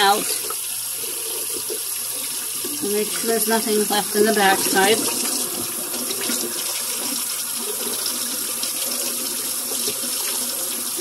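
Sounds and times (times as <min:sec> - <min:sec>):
faucet water splashing: 0:00.0 - 0:11.0.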